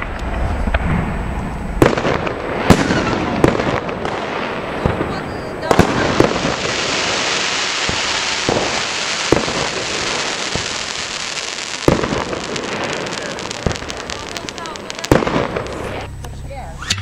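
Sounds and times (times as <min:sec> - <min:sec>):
firework bangs: 0:00.0 - 0:16.6
firework crackling rush: 0:00.0 - 0:16.8.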